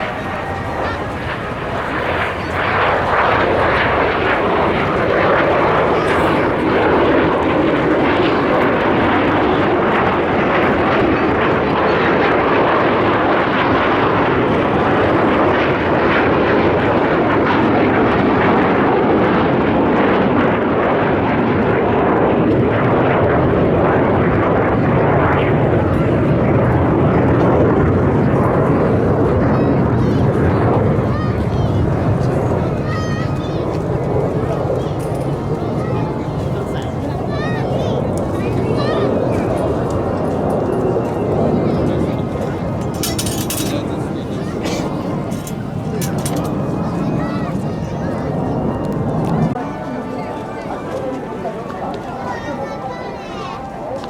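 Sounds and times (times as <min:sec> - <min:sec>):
loud jet engine rush: 0:00.0 - 0:49.6.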